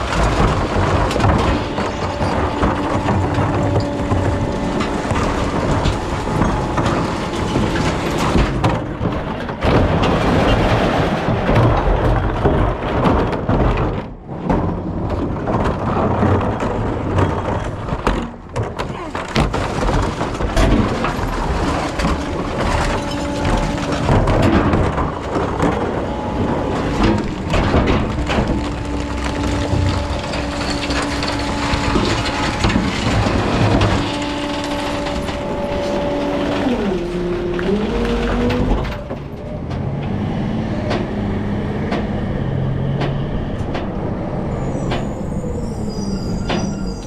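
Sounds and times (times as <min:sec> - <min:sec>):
rattling and clatter: 0:00.0 - 0:47.0
recycling truck rumbling: 0:00.0 - 0:47.0.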